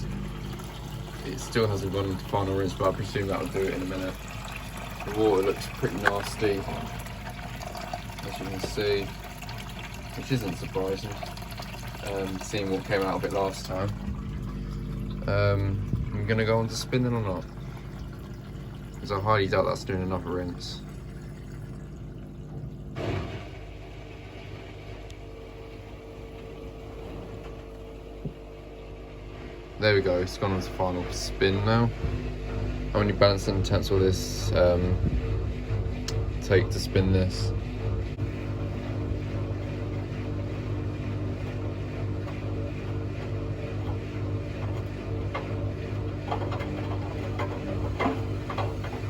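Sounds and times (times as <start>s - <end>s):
washing machine motor hum: 0.0s - 49.0s.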